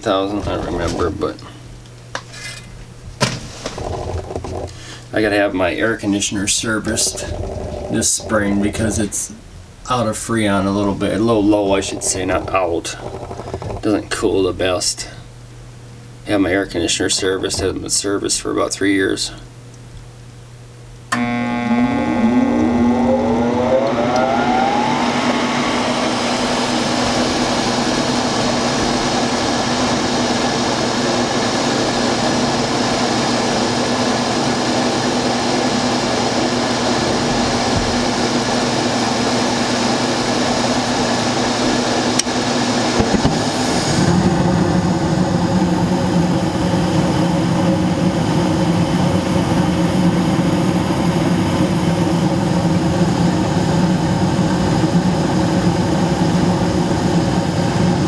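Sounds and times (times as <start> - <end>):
deep furnace hum: 0.0 - 58.0
furnace fans humming: 0.0 - 58.0.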